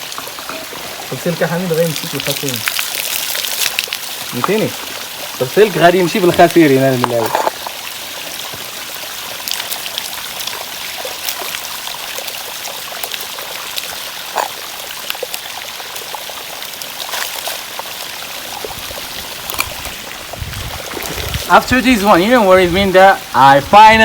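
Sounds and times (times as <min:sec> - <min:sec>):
spring water trickling: 0:00.0 - 0:23.7.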